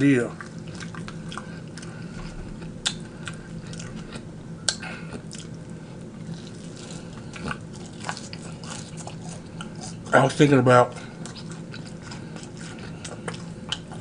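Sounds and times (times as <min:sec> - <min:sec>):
person chewing food: 0:00.3 - 0:10.2, 0:10.9 - 0:14.0.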